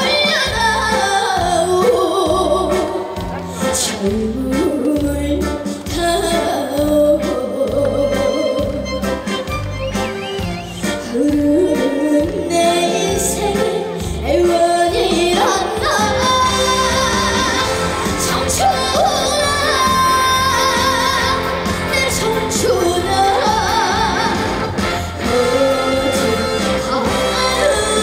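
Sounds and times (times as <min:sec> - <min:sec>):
woman singing with vibrato: 0:00.0 - 0:08.9, 0:10.8 - 0:28.0
loud backing track: 0:00.0 - 0:28.0.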